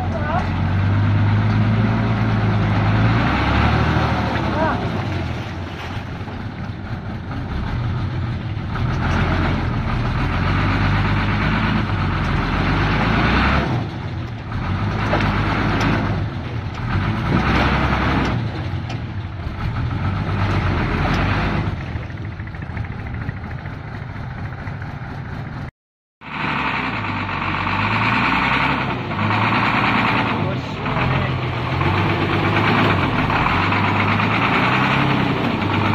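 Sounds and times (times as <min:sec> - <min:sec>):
diesel truck engine revving: 0:00.0 - 0:35.9.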